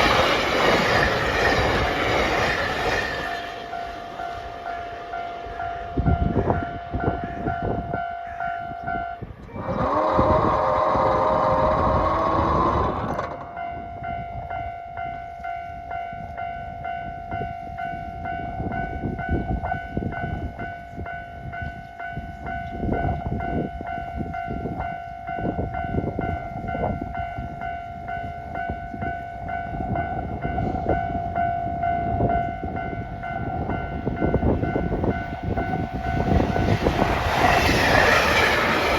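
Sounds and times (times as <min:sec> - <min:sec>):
train rumbling and wheel knocks: 0:00.0 - 0:15.5, 0:16.2 - 0:38.9.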